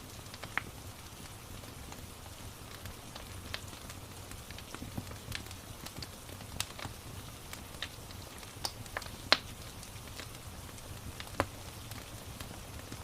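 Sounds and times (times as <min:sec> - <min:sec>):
rain hiss: 0:00.0 - 0:13.0
wood fire crackling: 0:00.0 - 0:13.0.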